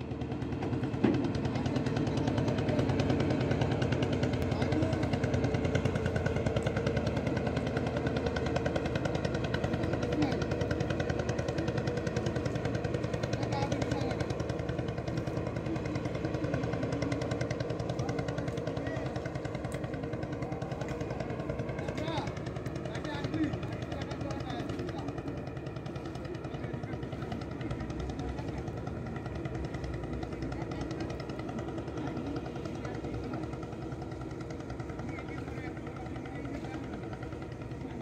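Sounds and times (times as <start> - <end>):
boat engine puttering: 0.0 - 38.0.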